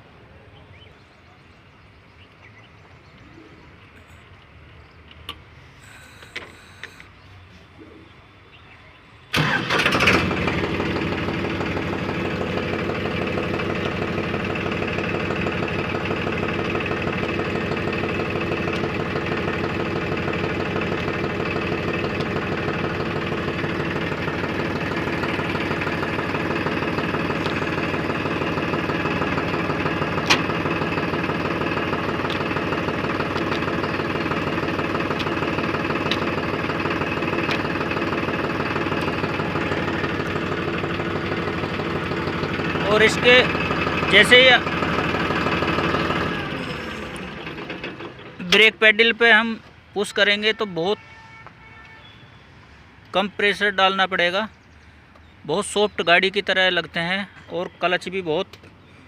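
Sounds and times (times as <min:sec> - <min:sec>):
diesel engine starting and idling: 0:02.7 - 0:08.1, 0:09.2 - 0:51.1.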